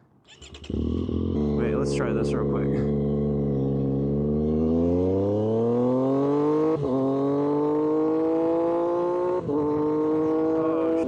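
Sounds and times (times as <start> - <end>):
motorcycle engine accelerating: 0.3 - 11.0.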